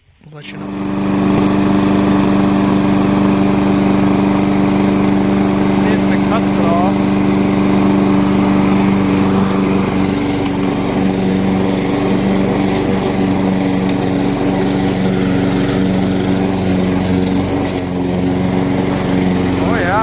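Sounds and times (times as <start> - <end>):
lawn mower engine running: 0.2 - 20.0.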